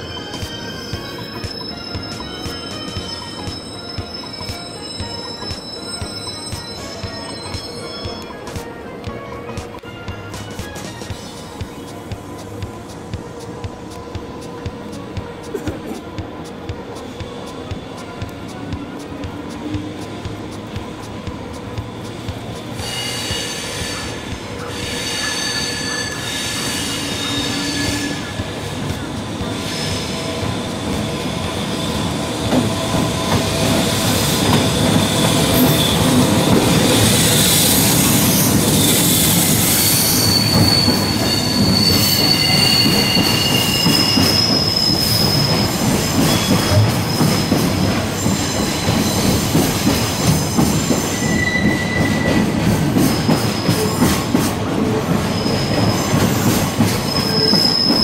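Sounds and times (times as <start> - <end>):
train wheels squealing: 0.0 - 8.7, 16.4 - 58.0.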